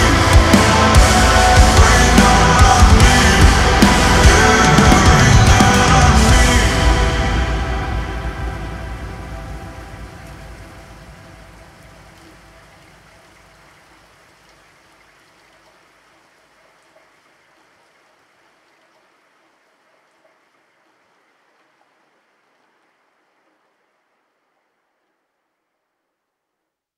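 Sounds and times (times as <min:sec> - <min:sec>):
rain-like hiss: 0:00.0 - 0:26.0.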